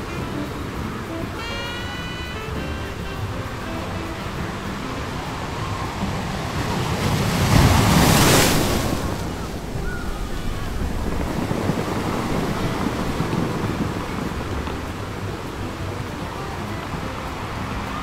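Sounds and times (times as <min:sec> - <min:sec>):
waves breaking on sand: 0:00.0 - 0:18.0
wind buffeting microphone: 0:00.0 - 0:18.0.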